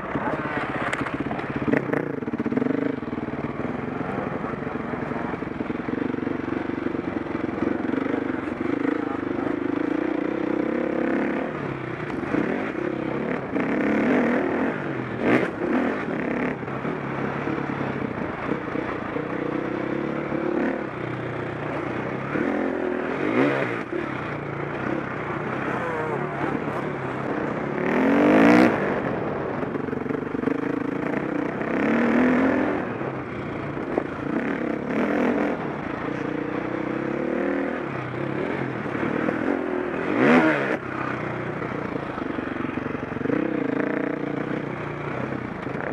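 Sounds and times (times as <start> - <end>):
motocross engine revving: 0.1 - 21.0, 21.6 - 33.2, 33.8 - 45.9.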